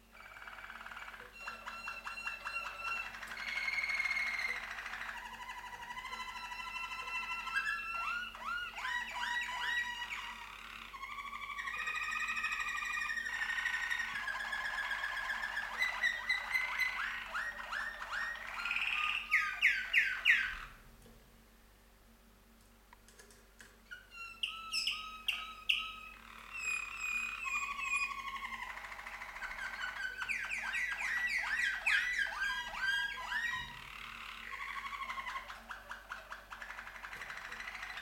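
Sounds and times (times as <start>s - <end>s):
canaries singing trills: 0.0s - 20.8s, 23.8s - 38.0s.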